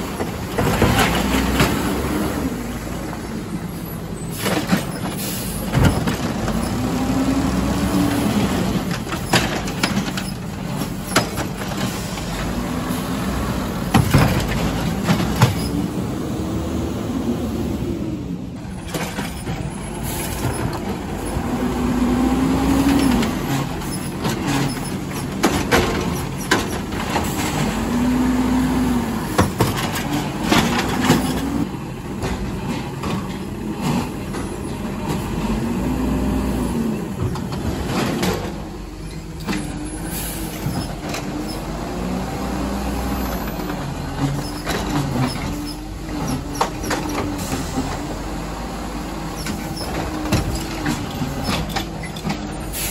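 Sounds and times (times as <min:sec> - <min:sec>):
garbage truck engine revving: 0:00.0 - 0:52.9.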